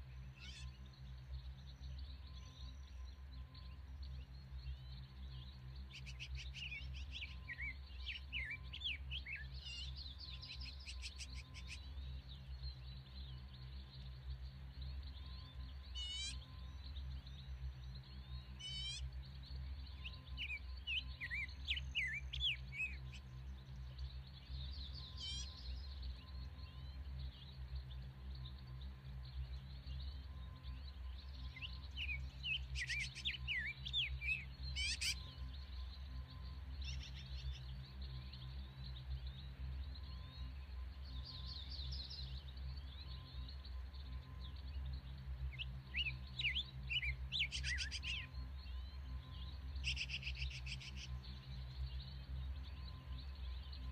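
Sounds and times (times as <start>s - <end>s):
steady low hum: 0.0s - 53.9s
birds chirping: 0.1s - 53.9s.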